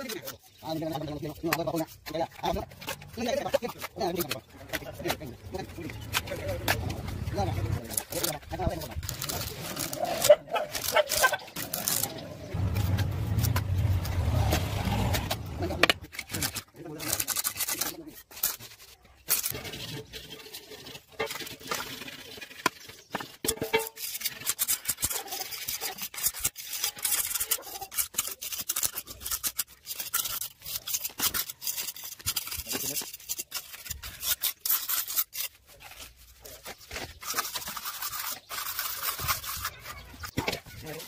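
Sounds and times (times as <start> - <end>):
trowel scraping cement mortar: 0.0 - 41.0.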